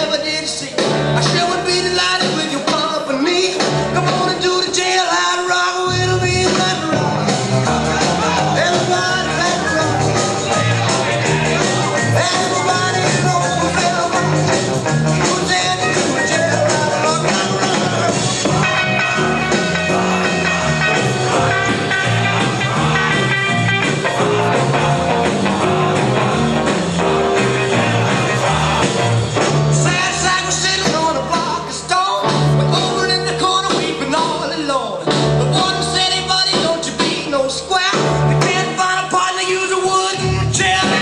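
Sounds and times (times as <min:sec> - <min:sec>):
bass line: 0:00.0 - 0:05.2, 0:05.8 - 0:41.0
person singing: 0:00.0 - 0:41.0
rock and roll song: 0:00.0 - 0:41.0.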